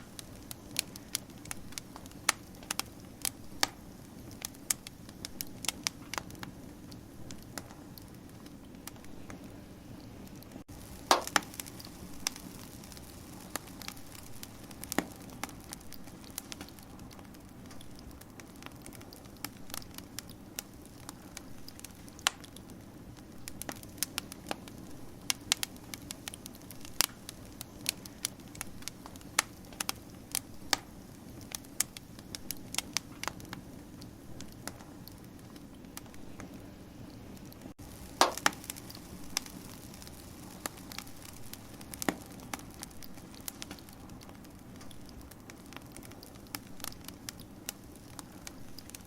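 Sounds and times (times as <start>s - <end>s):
low rustle of burning: 0.0s - 49.0s
wood fire crackling and popping: 0.0s - 49.0s.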